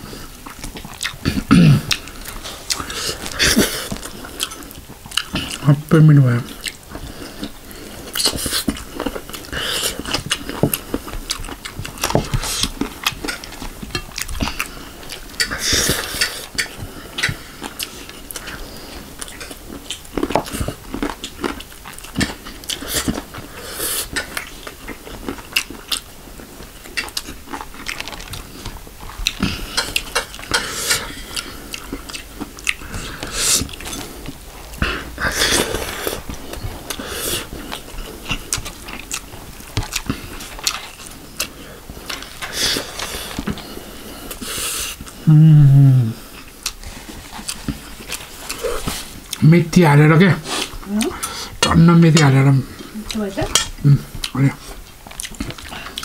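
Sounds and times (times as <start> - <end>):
wet chewing with mouth clicks: 0.0 - 56.0.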